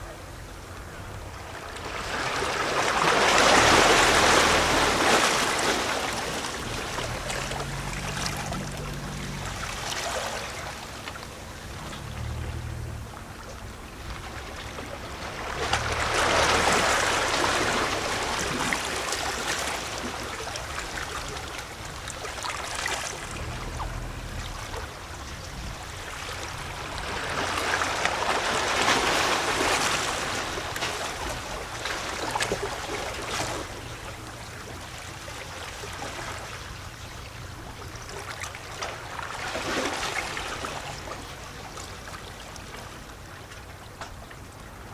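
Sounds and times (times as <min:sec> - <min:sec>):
waves lapping against rocks: 0:00.0 - 0:44.9
water gurgling and splashing: 0:02.0 - 0:43.2.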